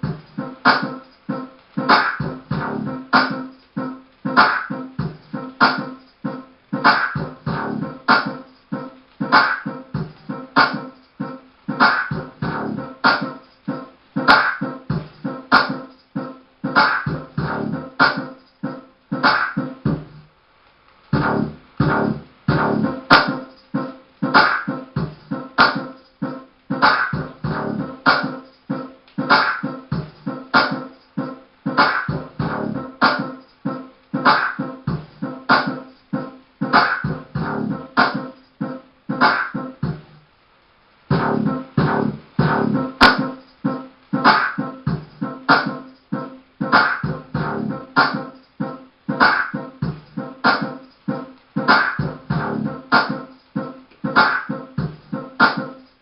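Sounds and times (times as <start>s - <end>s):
music with punchy beat: 0.0s - 20.3s, 21.0s - 40.4s, 41.0s - 56.0s.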